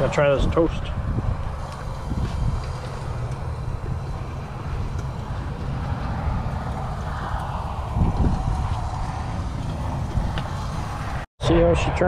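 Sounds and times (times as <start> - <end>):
road traffic noise: 0.0 - 12.0
vehicle passing: 0.0 - 12.0
wind rumbling on microphone: 0.0 - 12.0.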